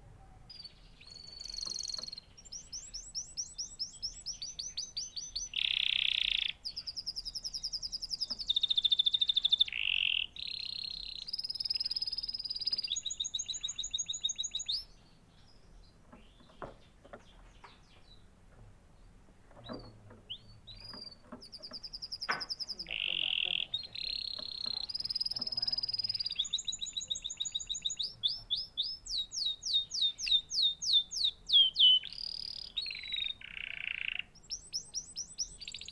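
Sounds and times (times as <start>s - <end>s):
soft bird chirps: 0.2s - 18.3s, 19.0s - 35.9s
canary singing trills: 0.4s - 18.4s, 19.0s - 35.9s.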